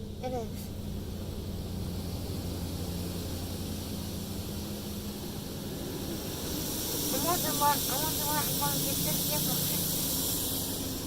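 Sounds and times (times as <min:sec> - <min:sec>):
car wash hissing: 0:00.0 - 0:11.0
low hum: 0:00.0 - 0:11.0.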